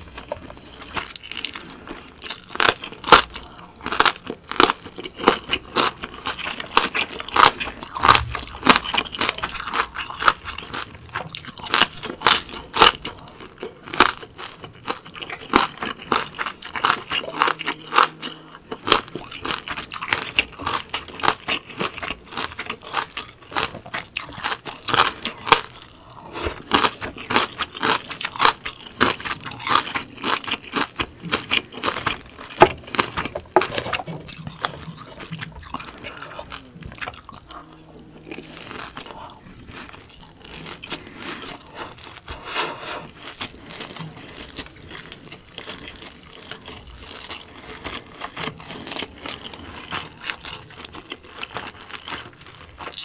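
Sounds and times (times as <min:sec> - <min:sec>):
crunchy chewing: 0:00.0 - 0:53.0.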